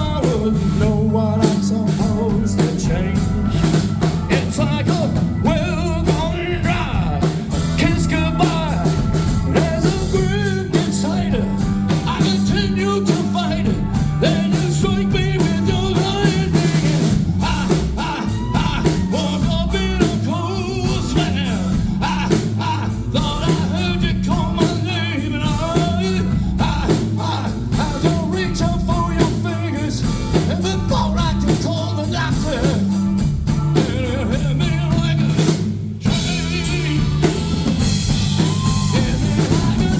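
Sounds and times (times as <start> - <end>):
drum kit: 0.0 - 39.9
person singing: 0.0 - 39.9
steady bass line: 0.0 - 39.9.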